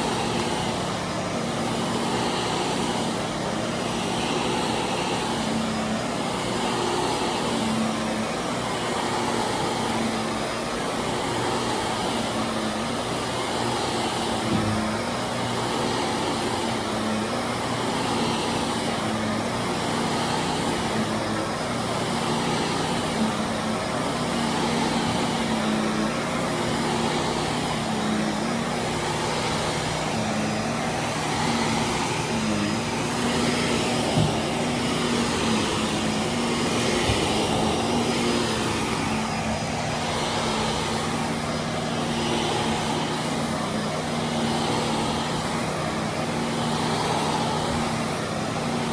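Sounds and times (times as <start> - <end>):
carpet cleaning machine motor: 0.0 - 48.9
power washer hiss: 0.0 - 48.9.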